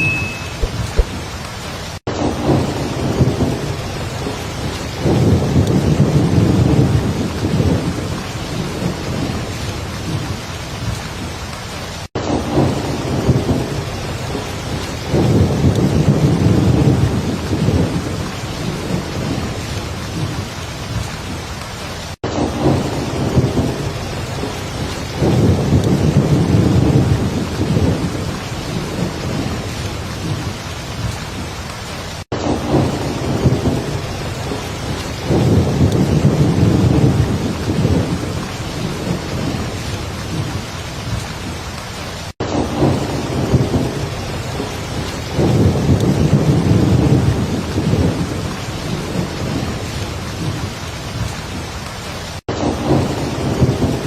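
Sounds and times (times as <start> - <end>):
thunder rumbles: 0.0 - 21.5, 22.2 - 54.0
heavy rain falling: 0.0 - 54.0.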